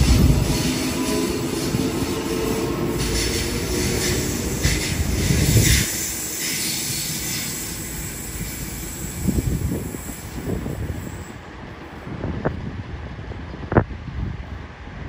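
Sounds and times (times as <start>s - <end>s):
electric train passing: 0.0s - 15.0s
train wheels rumbling: 0.0s - 15.0s.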